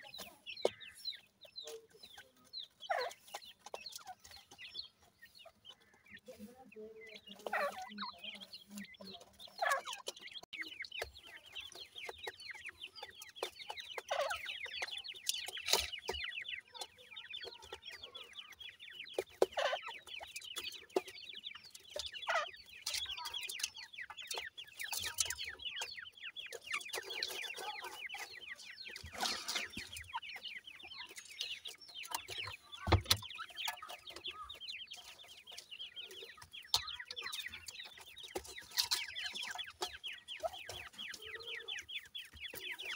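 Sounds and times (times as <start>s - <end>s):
chicks chirping: 0.0s - 42.9s.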